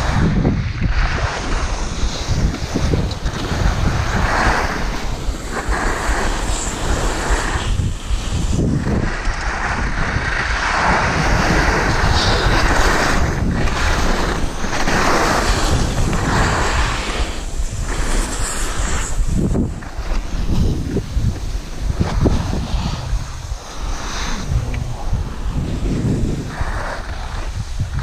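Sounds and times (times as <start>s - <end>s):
skis scraping on packed snow: 0.0s - 28.0s
wind rushing over microphone: 0.0s - 28.0s.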